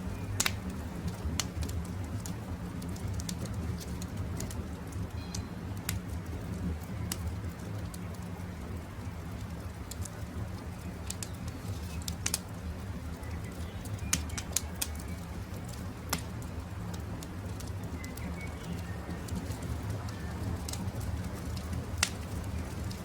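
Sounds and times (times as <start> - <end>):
campfire crackling: 0.0 - 23.0
sharp fire pops: 0.1 - 8.2, 9.8 - 23.0.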